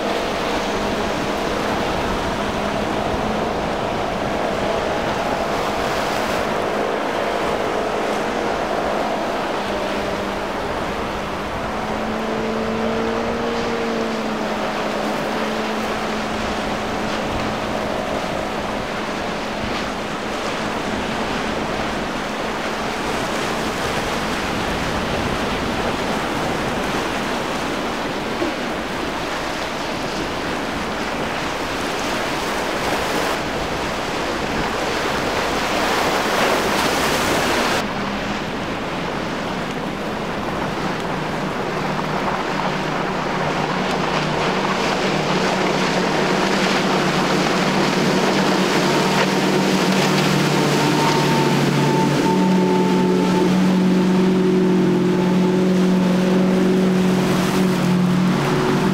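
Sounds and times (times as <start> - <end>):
outboard engines droning: 0.0 - 58.9
waves washing: 0.0 - 58.9
wind on microphone: 0.0 - 58.9.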